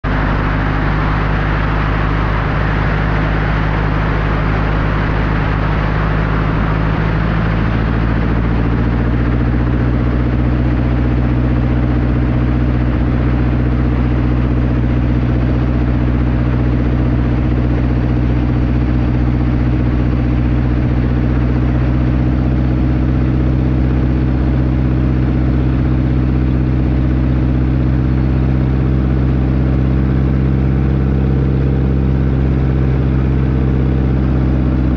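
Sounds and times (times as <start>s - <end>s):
rushing noise: 0.0s - 34.9s
seaplane engine and propeller: 0.0s - 34.9s.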